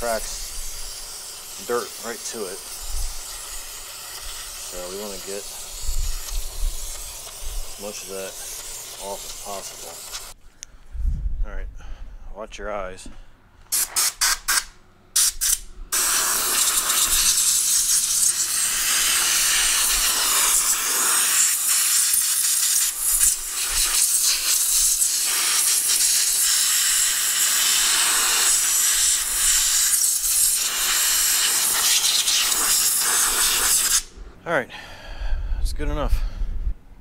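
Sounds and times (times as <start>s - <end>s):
compressed air blow gun blasts: 0.0s - 10.4s, 13.6s - 34.2s.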